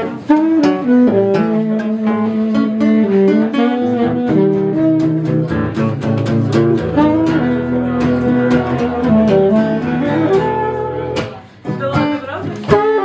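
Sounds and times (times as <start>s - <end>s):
bass line: 0.0s - 13.0s
plucked guitar: 0.0s - 13.0s.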